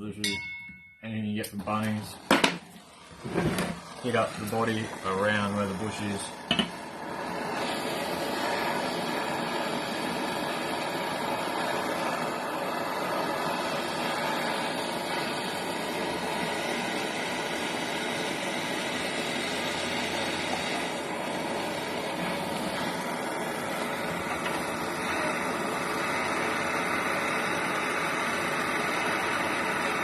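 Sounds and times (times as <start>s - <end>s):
gas torch hissing: 1.3s - 30.0s.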